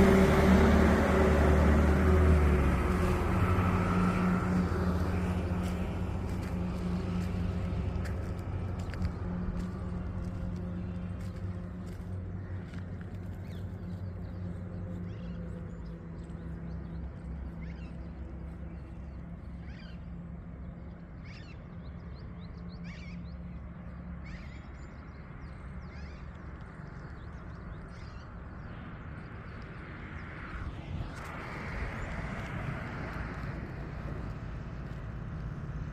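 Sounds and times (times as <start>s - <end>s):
vehicle engine drone: 0.0s - 35.9s.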